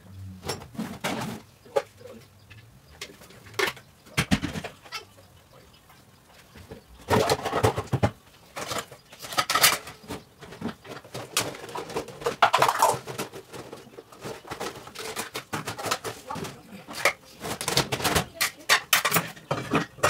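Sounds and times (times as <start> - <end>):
plastic containers clattering: 0.4 - 5.2, 6.4 - 20.0.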